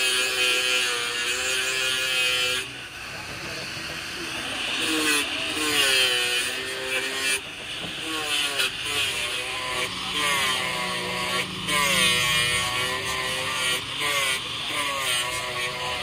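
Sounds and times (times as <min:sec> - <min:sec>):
angle grinder grinding metal: 0:00.0 - 0:16.0.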